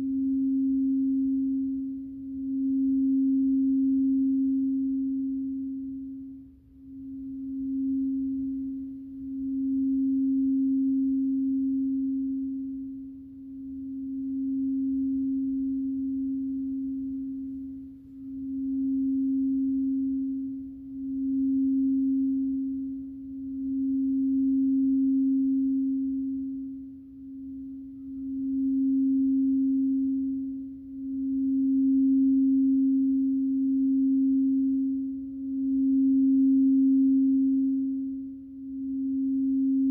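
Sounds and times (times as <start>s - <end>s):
singing bowl humming tone: 0.0s - 39.9s.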